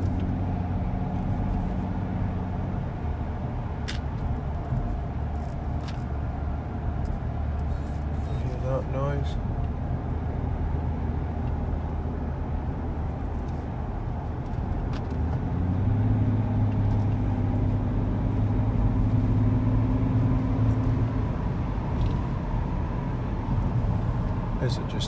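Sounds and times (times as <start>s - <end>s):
low droning hum in car cabin: 0.0s - 25.0s
road noise: 0.0s - 25.0s.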